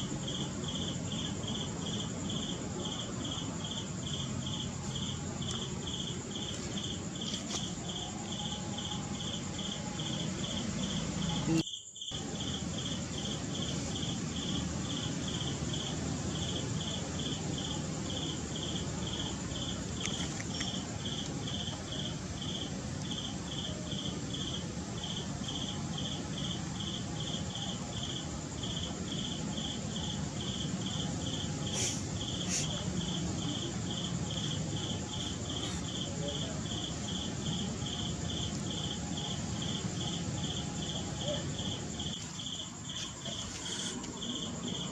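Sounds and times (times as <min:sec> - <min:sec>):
background hiss: 0:00.0 - 0:44.9
insect chirping: 0:00.0 - 0:44.9.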